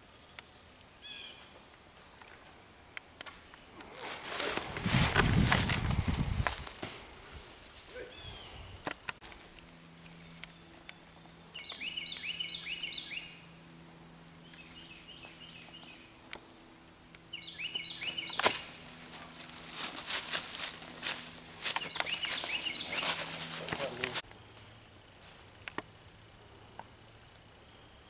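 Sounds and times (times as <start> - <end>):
songbird singing: 0.0 - 6.6, 7.9 - 28.0.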